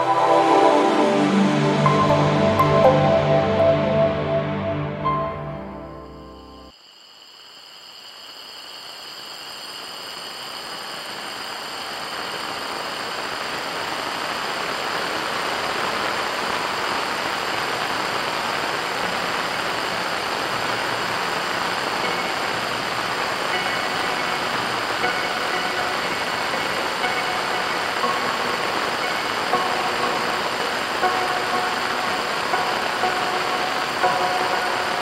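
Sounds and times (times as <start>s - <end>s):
steady rainfall: 6.9s - 35.0s.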